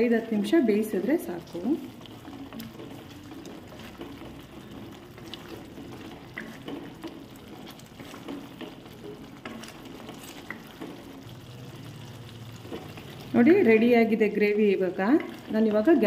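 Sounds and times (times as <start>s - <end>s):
thick gravy bubbling in a pot: 0.0s - 16.0s
wooden spatula scraping pot: 0.2s - 16.0s.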